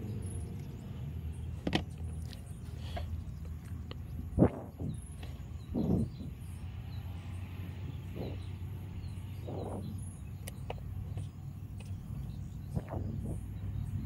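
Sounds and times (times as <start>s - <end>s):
steady low hum: 0.0s - 14.0s
faint bird chirps: 2.4s - 14.0s.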